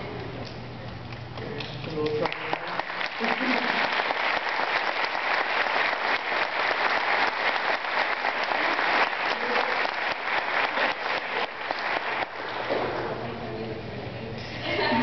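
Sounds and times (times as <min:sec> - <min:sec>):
crowd clapping: 0:01.1 - 0:13.2.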